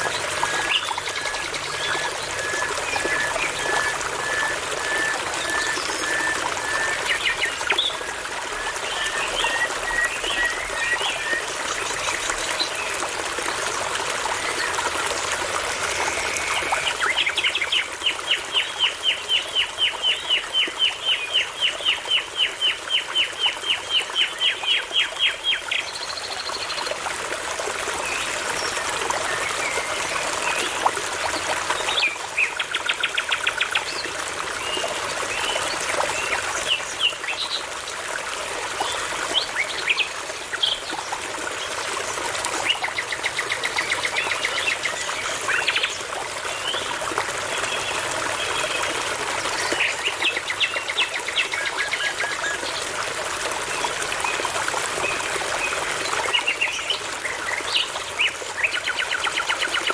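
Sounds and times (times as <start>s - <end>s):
babbling brook: 0.0s - 59.9s.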